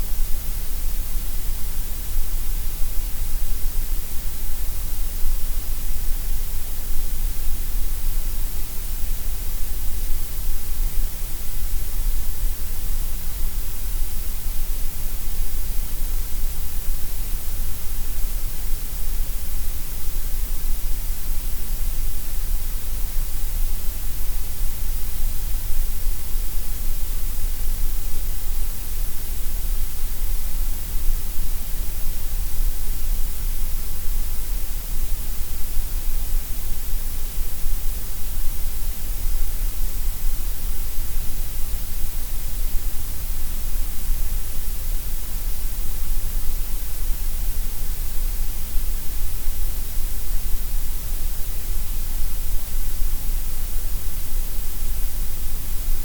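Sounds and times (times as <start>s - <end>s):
gray noise hiss: 0.0s - 56.0s.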